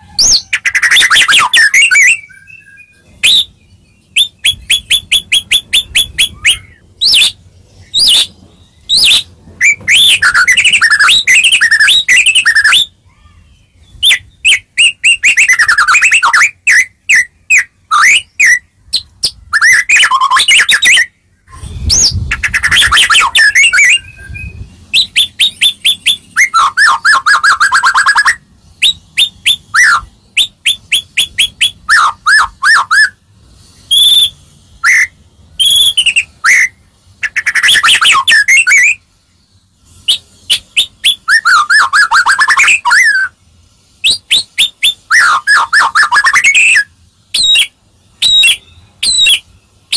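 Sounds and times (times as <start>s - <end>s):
songbird singing loudly: 0.0s - 49.9s.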